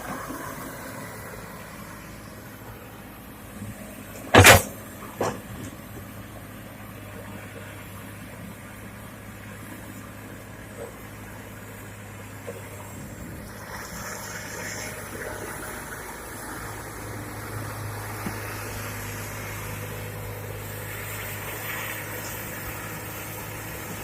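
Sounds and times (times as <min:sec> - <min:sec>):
excavator diesel engine drone: 0:00.0 - 0:24.0.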